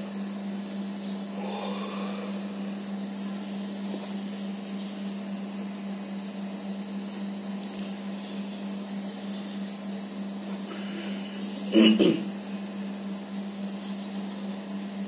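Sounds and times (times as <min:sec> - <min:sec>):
steady machine hum: 0:00.0 - 0:15.0
high whine: 0:00.9 - 0:14.6.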